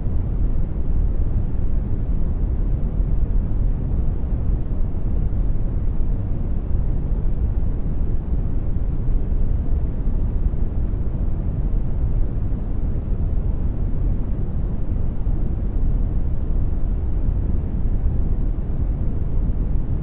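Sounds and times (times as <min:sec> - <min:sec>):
brown noise rumbling hiss: 0:00.0 - 0:20.0.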